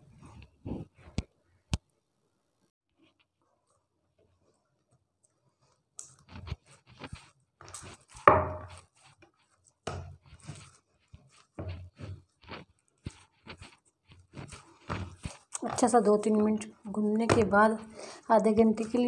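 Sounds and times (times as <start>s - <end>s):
hands kneading dough: 3.5s - 19.0s.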